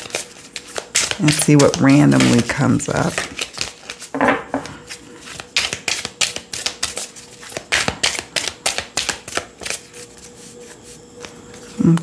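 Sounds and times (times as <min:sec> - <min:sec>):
cards being shuffled: 0:00.0 - 0:11.9.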